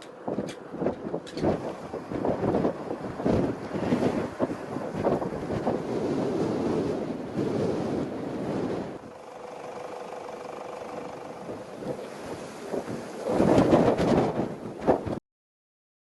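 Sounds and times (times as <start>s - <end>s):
faint steady hum: 0.0s - 14.0s
wind buffeting microphone: 0.0s - 15.2s.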